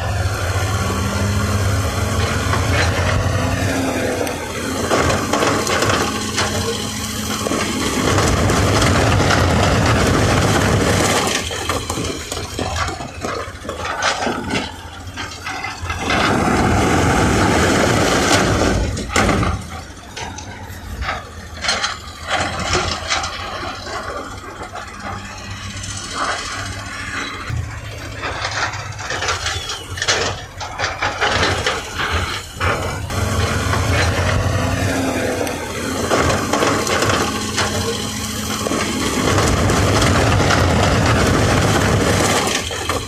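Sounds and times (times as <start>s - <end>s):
diesel engines under load: 0.0s - 43.0s
sharp knocks and clatter: 1.4s - 43.0s.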